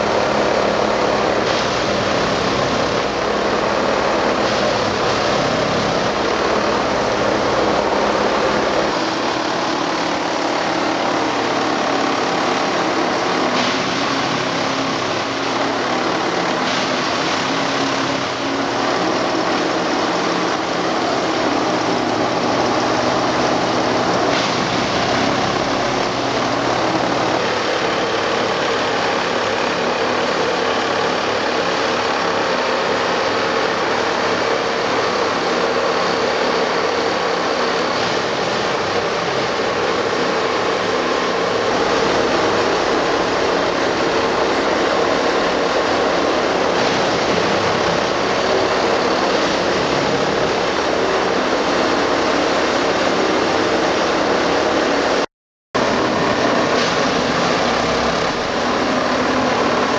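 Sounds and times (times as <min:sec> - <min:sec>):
track tamping machine engine: 0:00.0 - 0:59.9.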